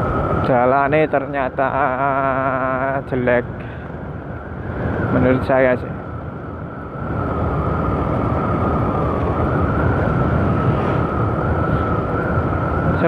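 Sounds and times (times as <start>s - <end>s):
high whine: 0.0s - 13.0s
road rumble: 0.0s - 13.0s.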